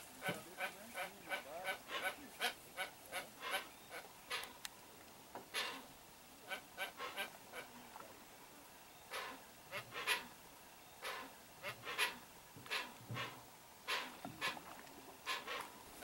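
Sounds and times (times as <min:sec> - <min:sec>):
birds making rasping calls: 0:00.1 - 0:04.6, 0:05.4 - 0:07.8, 0:09.0 - 0:16.0.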